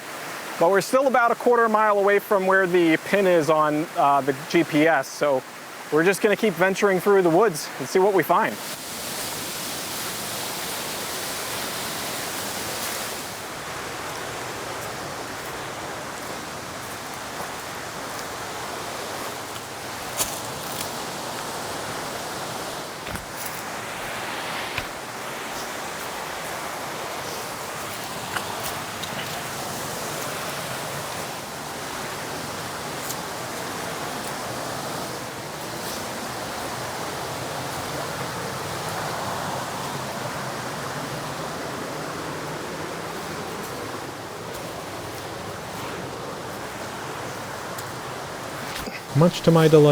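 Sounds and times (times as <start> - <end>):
creek rushing over cascades: 0.0 - 49.9.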